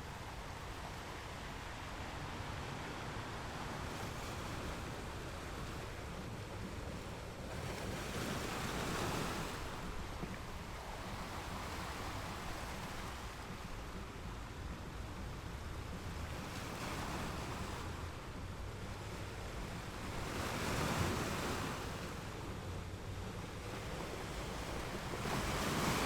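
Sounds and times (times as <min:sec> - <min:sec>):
ocean surf: 0:00.0 - 0:26.0.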